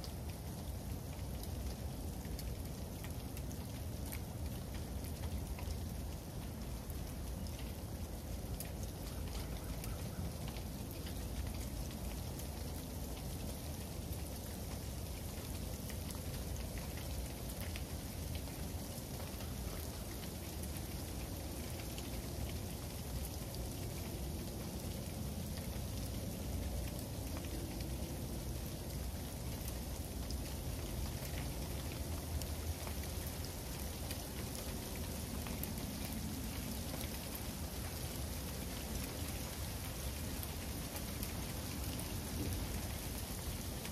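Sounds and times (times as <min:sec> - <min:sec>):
freezing rain ticking on hard surfaces: 0:00.0 - 0:43.9.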